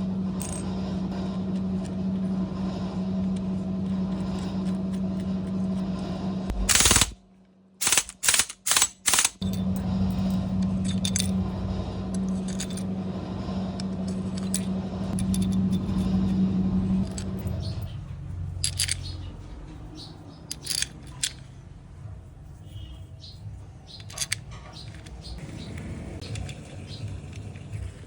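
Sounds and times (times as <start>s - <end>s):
low machine hum: 0.0s - 8.4s, 9.2s - 28.0s.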